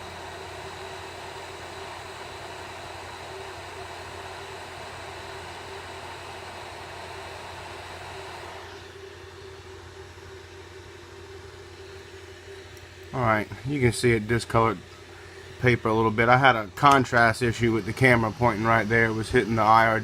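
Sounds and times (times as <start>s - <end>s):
hot air blower rushing: 0.0s - 10.6s, 11.2s - 20.0s
fan hum: 0.0s - 20.0s.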